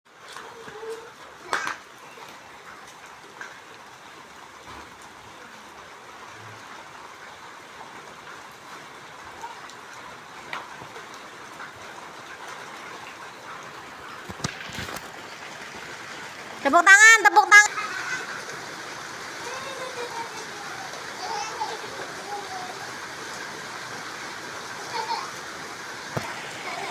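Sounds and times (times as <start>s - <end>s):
steady rain: 0.1s - 26.9s.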